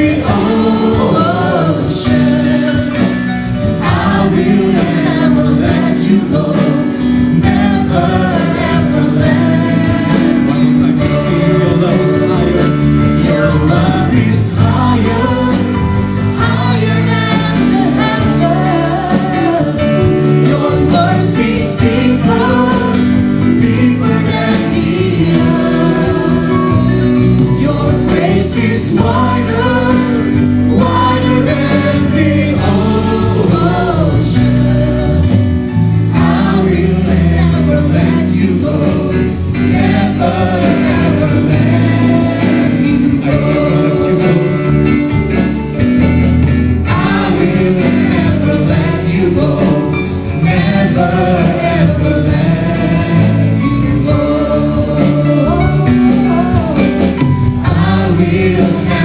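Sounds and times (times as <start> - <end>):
bass: 0.0 - 59.0
sustained keyboard chords: 0.0 - 59.0
worship team singing: 0.0 - 59.0.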